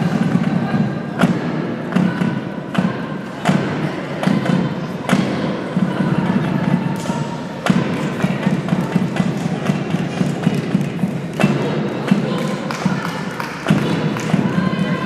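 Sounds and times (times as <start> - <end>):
low rumble of large hall: 0.0 - 15.0.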